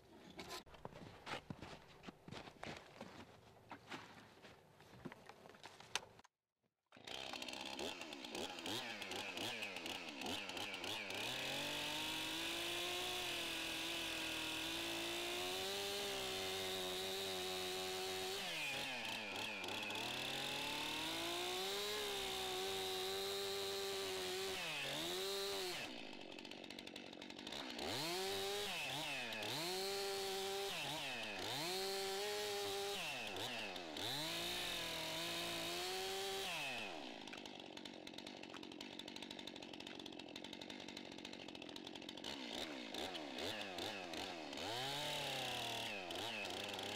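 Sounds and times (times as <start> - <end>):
chainsaw cutting log: 6.9 - 46.9.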